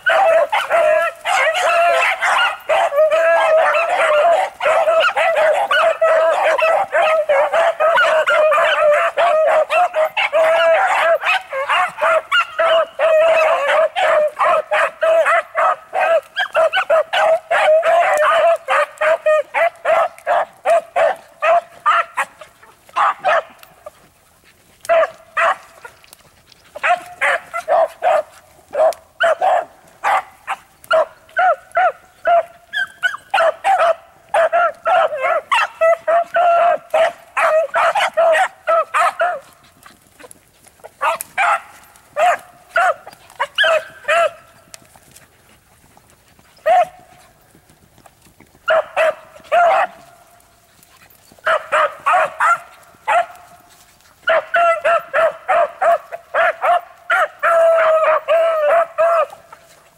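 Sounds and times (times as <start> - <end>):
dogs barking and yipping: 0.0 - 59.9.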